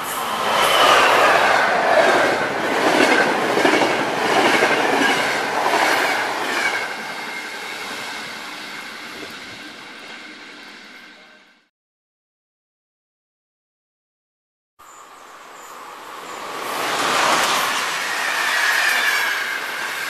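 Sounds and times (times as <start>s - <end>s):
train whine: 0.0s - 11.7s, 14.9s - 20.0s.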